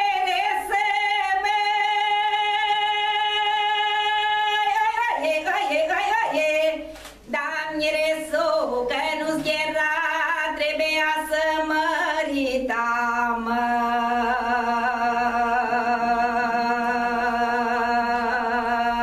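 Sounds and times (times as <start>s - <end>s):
woman singing folk song: 0.0s - 19.0s.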